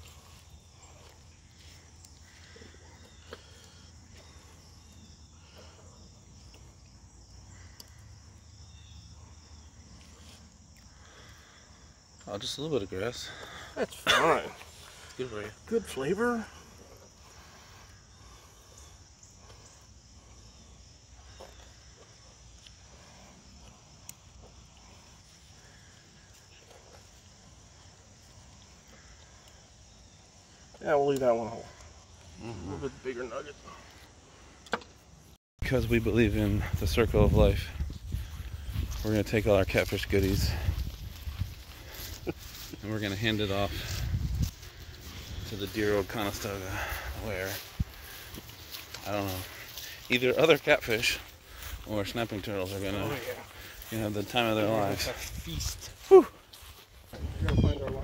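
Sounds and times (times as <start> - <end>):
high insect chirring: 0.0 - 34.6, 35.8 - 58.0.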